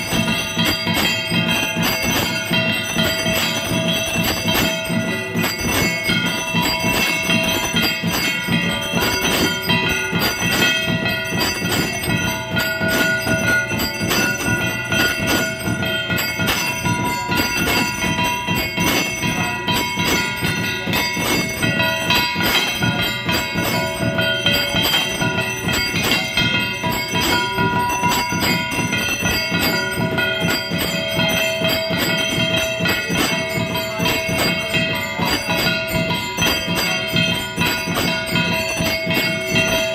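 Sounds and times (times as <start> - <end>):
temple bells ringing rapidly: 0.0 - 39.9.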